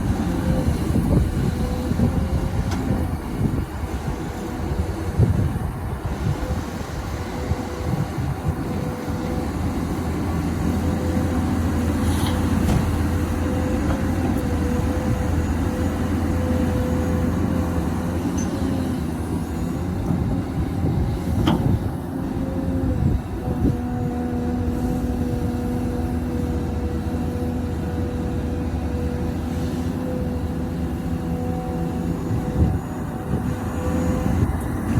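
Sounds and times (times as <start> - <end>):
excavator diesel engine working: 0.0 - 34.9
hydraulic whine: 0.0 - 34.9.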